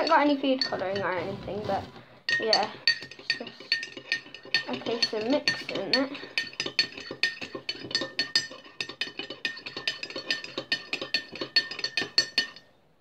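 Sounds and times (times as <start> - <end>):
spoon clinking against container: 0.0 - 1.2, 2.3 - 12.7.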